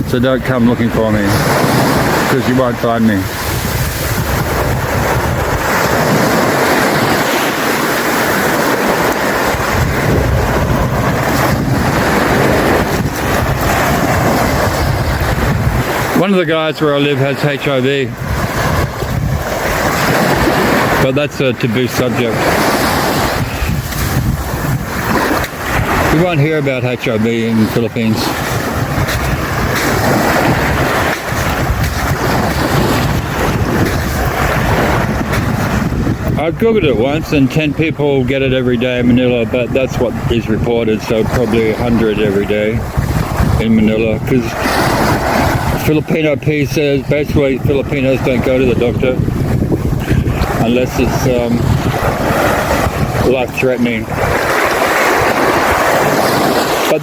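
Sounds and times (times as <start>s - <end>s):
surf washing onto beach: 0.0s - 57.0s
wind buffeting microphone: 0.0s - 57.0s.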